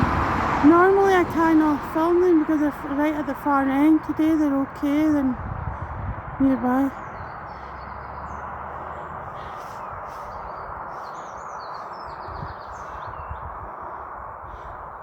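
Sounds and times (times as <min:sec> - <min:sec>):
small birds chirping: 0:01.0 - 0:15.0.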